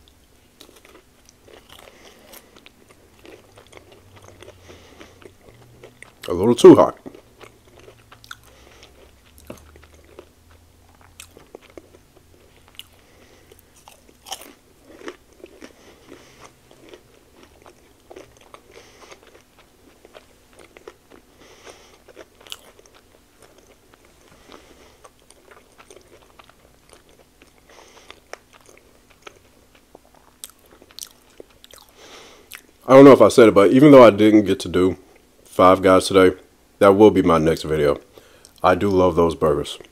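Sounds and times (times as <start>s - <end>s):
person biting and chewing: 0.0s - 6.4s, 7.0s - 32.8s
mouth clicks and crunches: 0.6s - 32.8s.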